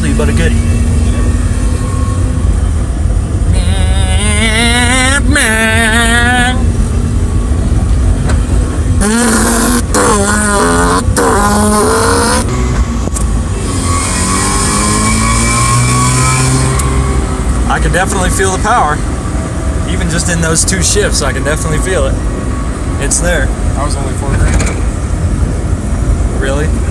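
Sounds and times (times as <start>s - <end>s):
car engine accelerating through gears: 0.0s - 26.9s.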